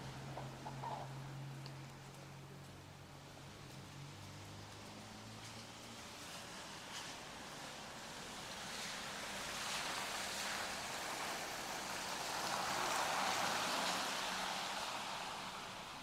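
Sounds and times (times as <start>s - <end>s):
car tyres hissing on wet road: 2.5s - 16.0s.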